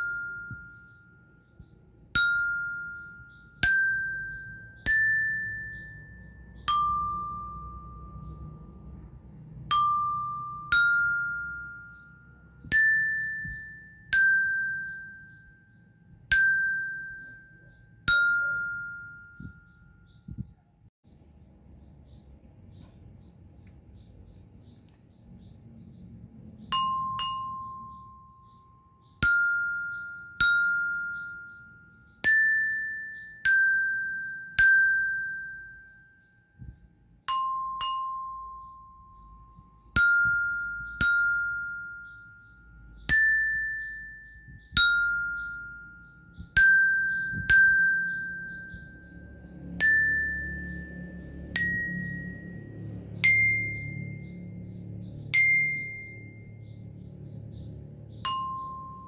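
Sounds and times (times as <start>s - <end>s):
bell lyre melody: 0.0s - 20.6s, 25.3s - 59.0s.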